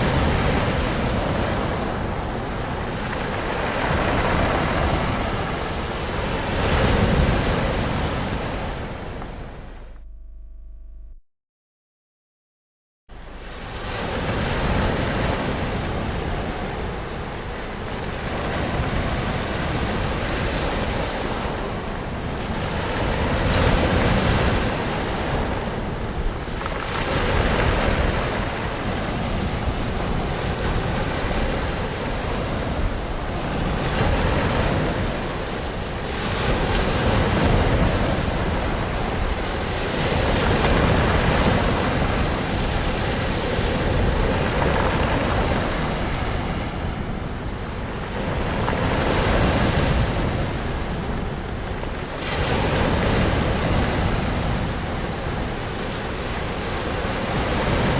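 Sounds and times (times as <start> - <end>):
ocean waves breaking: 0.0 - 10.0, 13.2 - 57.9.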